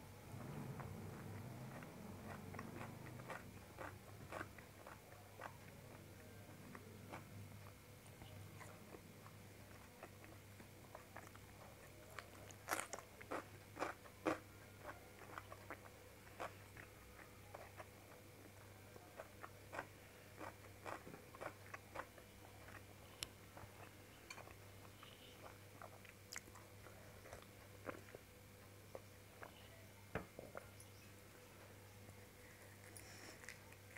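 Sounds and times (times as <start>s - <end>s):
faint low hum: 0.0s - 33.9s
person chewing and mouth sounds: 0.4s - 29.7s, 31.6s - 33.9s.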